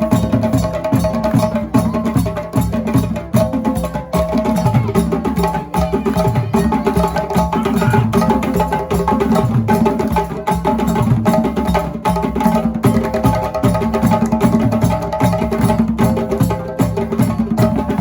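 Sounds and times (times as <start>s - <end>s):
fast percussion music: 0.0s - 18.0s.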